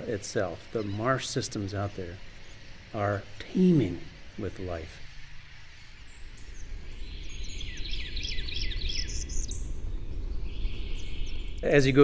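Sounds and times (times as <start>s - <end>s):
terns calling: 0.0s - 12.0s.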